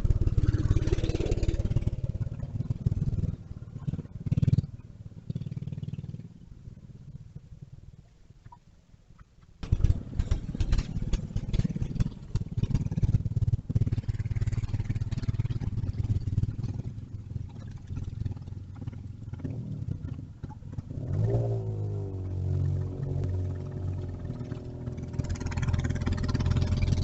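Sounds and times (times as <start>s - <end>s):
small engine running rough: 0.0s - 7.5s, 9.6s - 27.0s.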